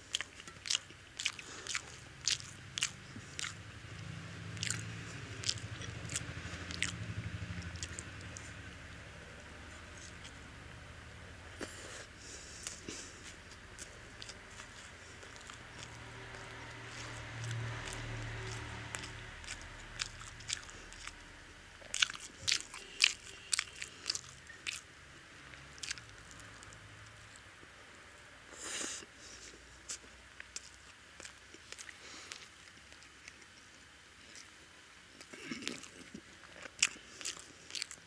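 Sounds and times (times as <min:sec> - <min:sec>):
person chewing wet food: 0:00.0 - 0:27.7, 0:28.6 - 0:38.0.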